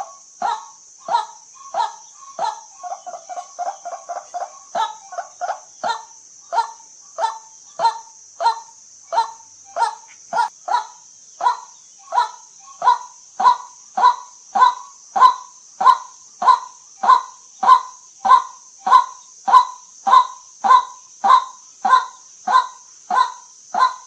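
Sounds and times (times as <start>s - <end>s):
steady high hiss: 0.0s - 24.0s.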